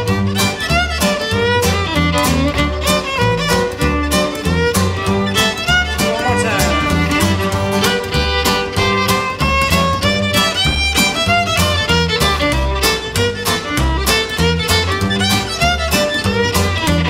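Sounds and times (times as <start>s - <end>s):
acoustic guitar strumming: 0.0s - 17.0s
fiddle playing melody: 0.0s - 17.0s
upright bass plucked: 0.0s - 17.0s.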